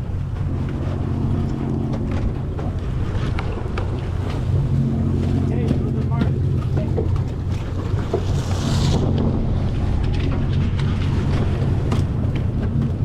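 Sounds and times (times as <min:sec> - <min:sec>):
boat engine humming: 0:00.0 - 0:13.0
water rushing past hull: 0:00.0 - 0:13.0
wind buffeting microphone: 0:00.0 - 0:13.0.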